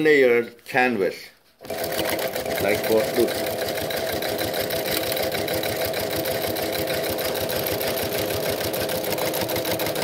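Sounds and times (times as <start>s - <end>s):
sewing machine stitching: 1.6s - 10.0s.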